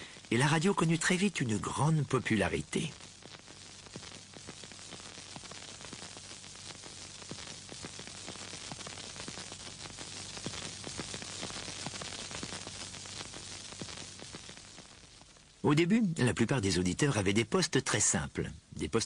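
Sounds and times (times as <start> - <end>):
radio static: 0.0 - 19.0.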